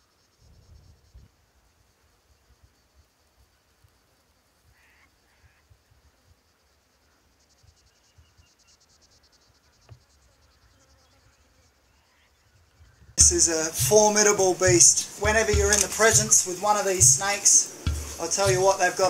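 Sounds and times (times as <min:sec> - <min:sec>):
faint insects trilling: 0:00.0 - 0:19.0.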